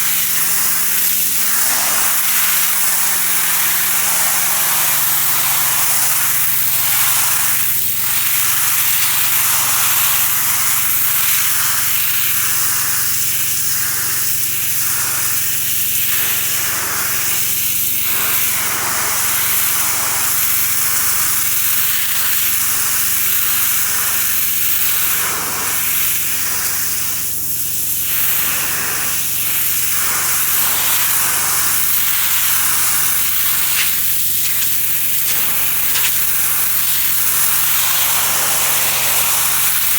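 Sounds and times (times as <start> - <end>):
pressure washer motor humming: 0.0 - 39.9
pressure washer water jet hissing: 0.0 - 39.9.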